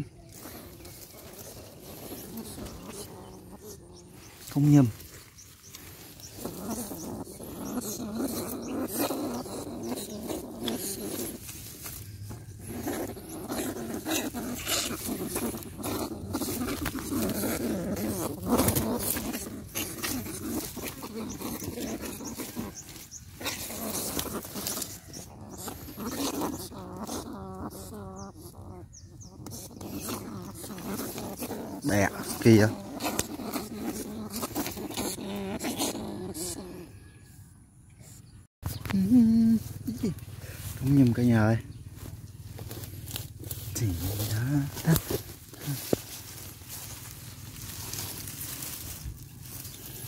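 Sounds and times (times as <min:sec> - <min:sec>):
grass and dry stalks rustling: 0:00.0 - 0:37.2, 0:38.6 - 0:50.0
animal noises: 0:00.0 - 0:50.0.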